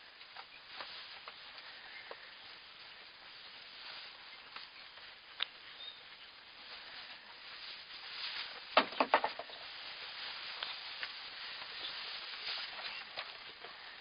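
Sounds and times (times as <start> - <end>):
hooves shuffling in straw: 0.0 - 14.0.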